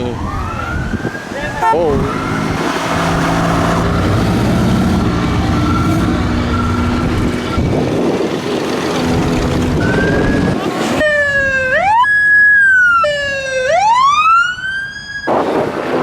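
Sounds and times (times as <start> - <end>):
passing engines: 0.0 - 16.0.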